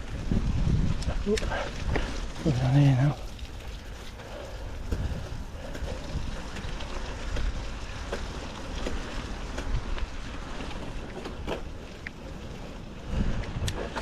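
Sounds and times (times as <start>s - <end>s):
bike clicks and rattles: 0.0s - 14.0s
bike tyre noise: 0.0s - 14.0s
wind buffeting microphone: 0.0s - 14.0s.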